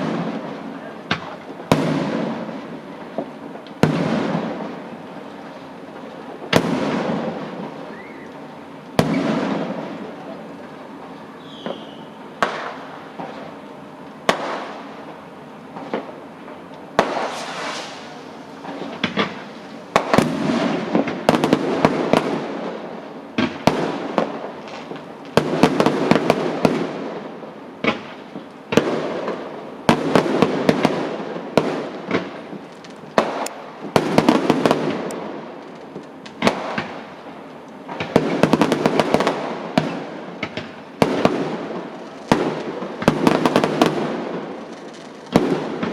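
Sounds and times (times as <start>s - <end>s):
fireworks bangs: 0.0s - 45.9s
fireworks crackling: 0.0s - 45.9s.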